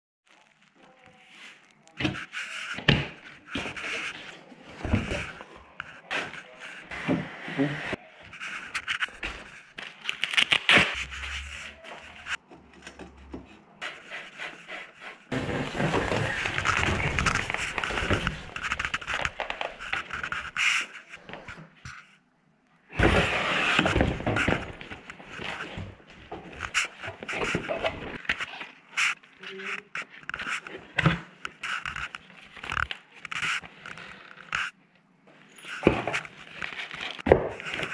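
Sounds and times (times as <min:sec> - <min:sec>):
scraping and rustling packaging: 0:00.3 - 0:22.1, 0:23.0 - 0:34.8, 0:35.4 - 0:37.9.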